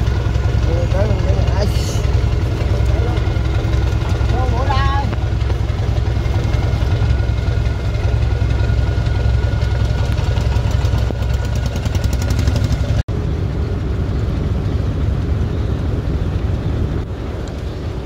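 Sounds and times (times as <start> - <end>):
boat diesel engine droning: 0.0 - 18.0.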